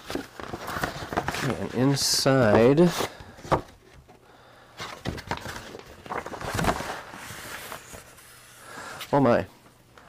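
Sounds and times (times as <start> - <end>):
paper rustling: 0.0 - 4.0, 4.8 - 9.1.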